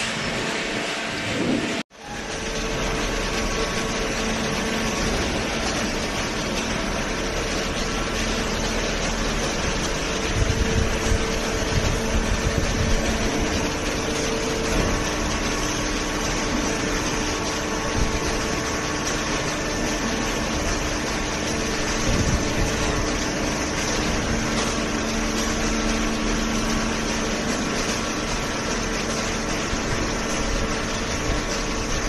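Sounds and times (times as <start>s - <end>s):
hydraulic power pack hum and whine: 0.0s - 32.0s.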